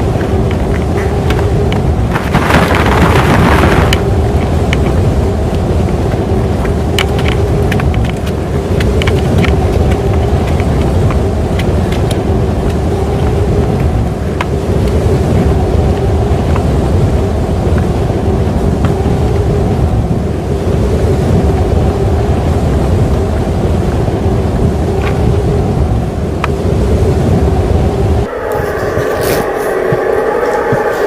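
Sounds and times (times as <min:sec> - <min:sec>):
storm wind buffeting microphone: 0:00.0 - 0:31.0.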